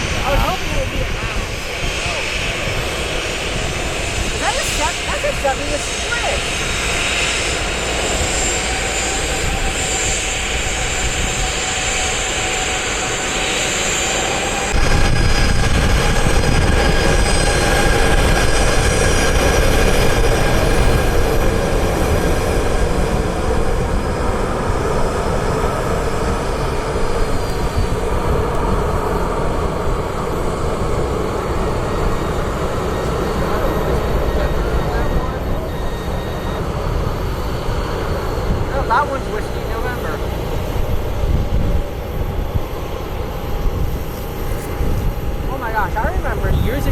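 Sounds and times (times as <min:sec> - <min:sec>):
jet engines whining and rumbling: 0:00.0 - 0:46.9.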